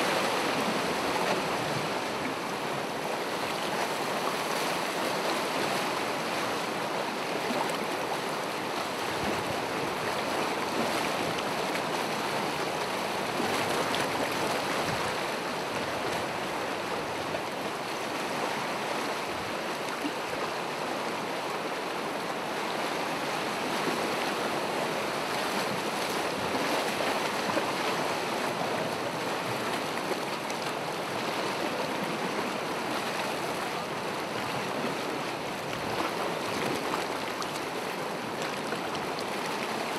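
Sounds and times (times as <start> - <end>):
gentle ocean waves: 0.0 - 39.9.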